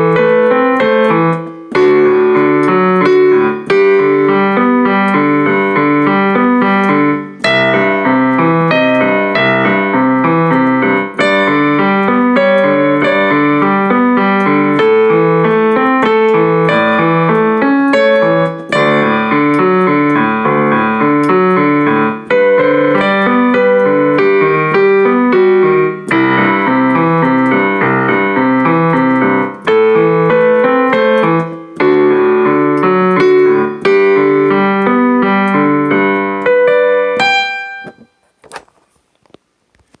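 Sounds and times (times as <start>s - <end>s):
piano melody: 0.0s - 38.4s.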